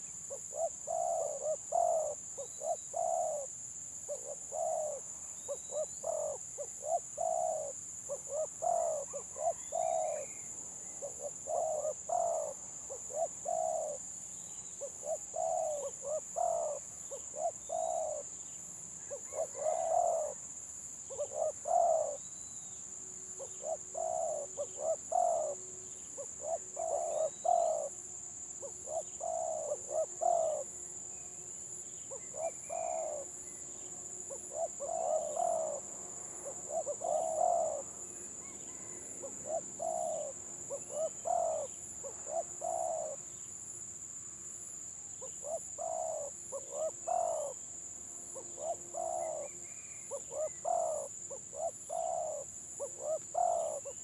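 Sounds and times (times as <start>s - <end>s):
doves cooing: 0.0s - 3.5s, 4.1s - 14.1s, 14.8s - 18.3s, 19.0s - 20.5s, 21.1s - 22.2s, 23.4s - 31.0s, 32.1s - 43.4s, 45.2s - 47.6s, 48.3s - 54.0s.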